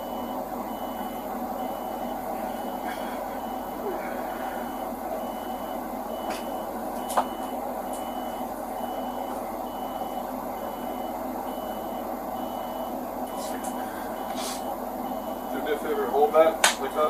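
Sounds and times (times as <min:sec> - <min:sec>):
engine hum: 0:00.0 - 0:17.0
reversing alarm beeping: 0:00.0 - 0:17.0.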